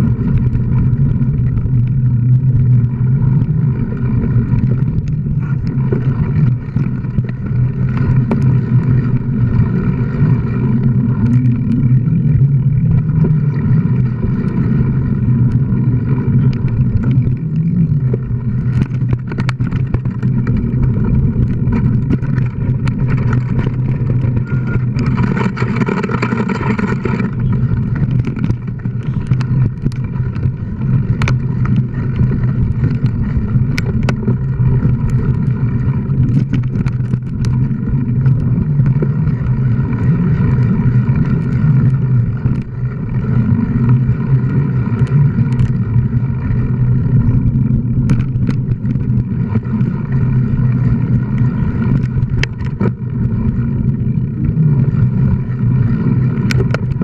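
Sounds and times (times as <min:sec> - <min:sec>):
bike rattling over bumps: 0:00.0 - 0:57.0
mountain bike rumble and hum: 0:00.0 - 0:57.0.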